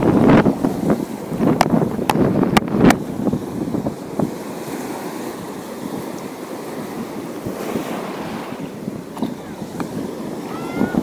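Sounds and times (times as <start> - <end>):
waves washing on shore: 0.0 - 11.0
wind buffeting microphone: 0.0 - 11.0.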